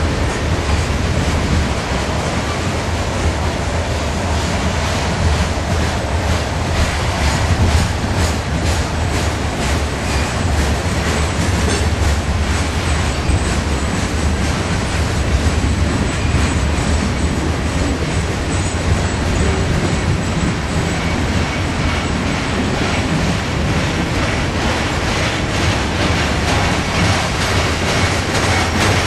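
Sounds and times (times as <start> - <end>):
steel wheels rumbling on rails: 0.0 - 29.0.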